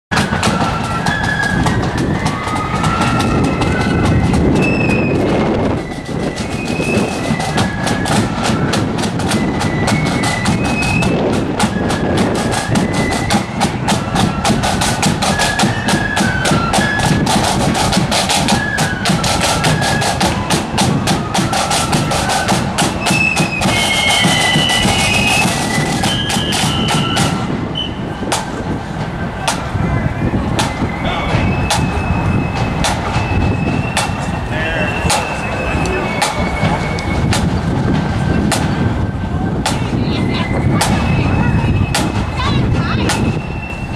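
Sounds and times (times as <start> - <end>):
flutes playing melody: 0.1 - 43.9
side drum rattling beats: 0.1 - 43.9.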